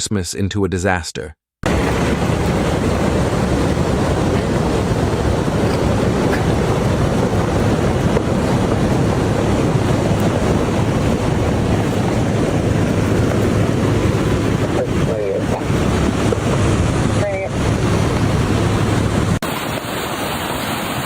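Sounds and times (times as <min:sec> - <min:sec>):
rushing water: 0:01.6 - 0:21.0.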